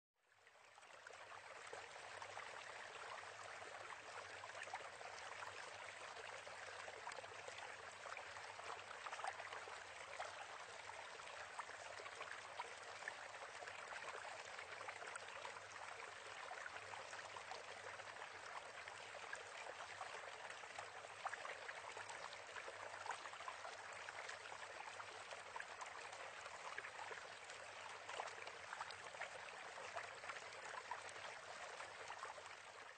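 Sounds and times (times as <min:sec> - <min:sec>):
aquarium water trickling and bubbling: 0:00.2 - 0:32.9.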